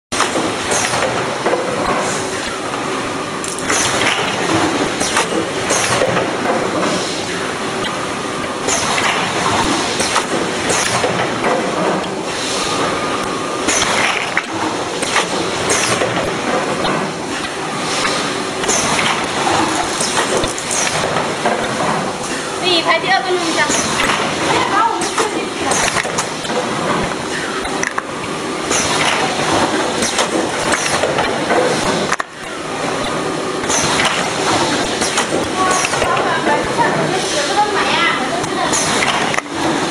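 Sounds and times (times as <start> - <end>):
machine mechanical clatter: 0.1 - 39.9.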